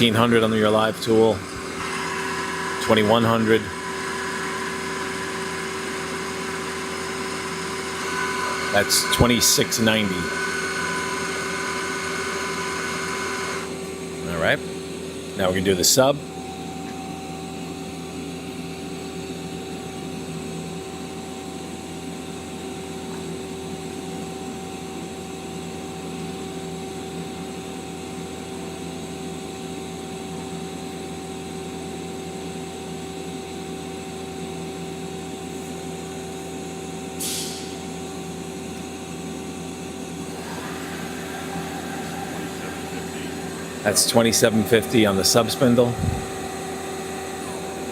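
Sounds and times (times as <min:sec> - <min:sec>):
machine hum with whine: 0:00.0 - 0:47.9.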